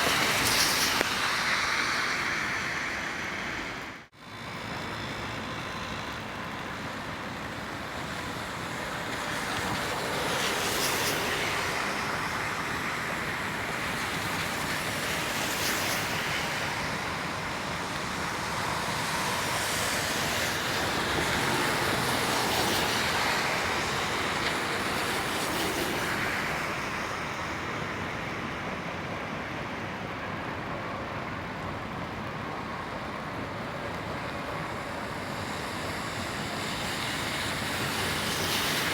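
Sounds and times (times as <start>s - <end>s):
traffic rush: 0.0s - 38.9s.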